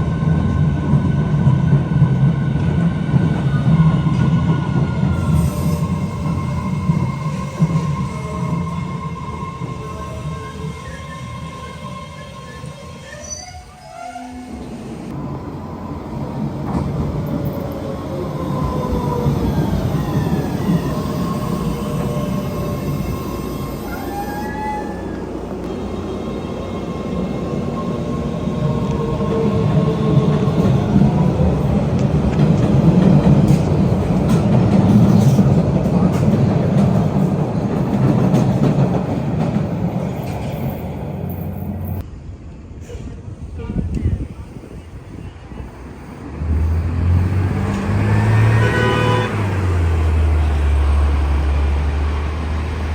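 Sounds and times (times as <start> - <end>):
subway train rumbling past: 0.0 - 52.9.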